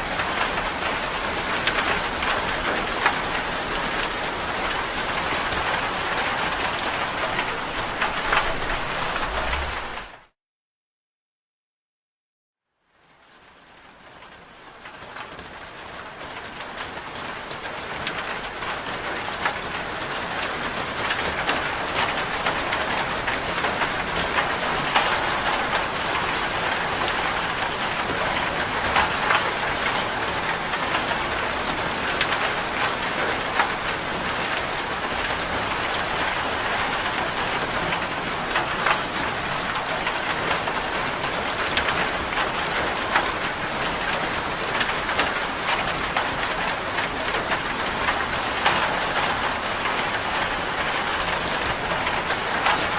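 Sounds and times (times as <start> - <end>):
steady rain: 0.0 - 10.3, 12.7 - 52.9.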